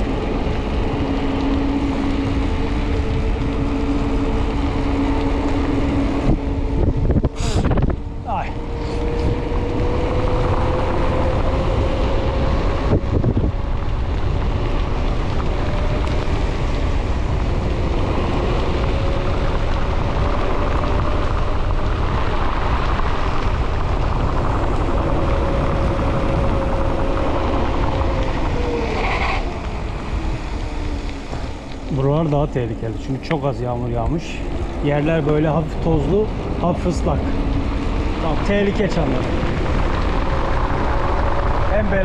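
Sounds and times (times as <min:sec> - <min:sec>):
bike tyres rolling on asphalt: 0:00.0 - 0:42.0
wind buffeting microphone: 0:00.0 - 0:42.0.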